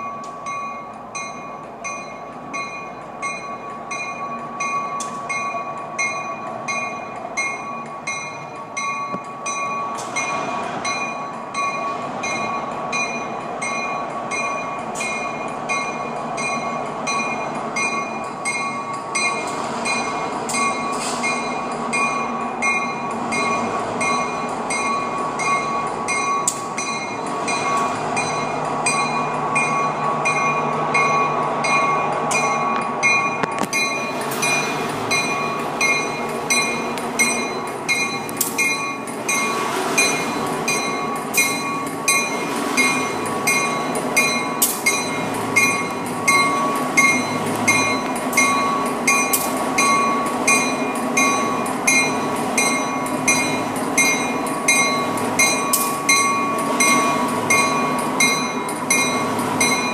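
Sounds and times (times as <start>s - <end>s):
diesel engine rumble: 0.0s - 59.9s
locomotive bell ringing: 0.0s - 59.9s.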